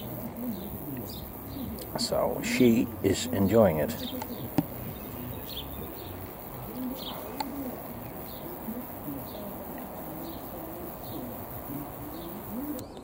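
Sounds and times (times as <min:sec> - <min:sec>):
birds calling with low notes: 0:00.0 - 0:13.0
steady hiss: 0:00.0 - 0:13.0.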